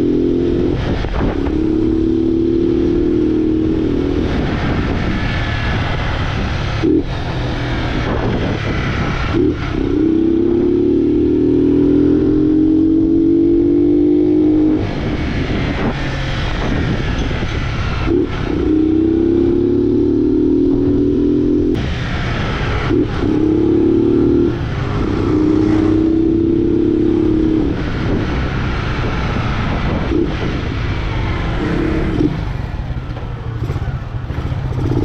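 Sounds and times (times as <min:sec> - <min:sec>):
motorcycle engine accelerating hard: 0:00.0 - 0:35.0.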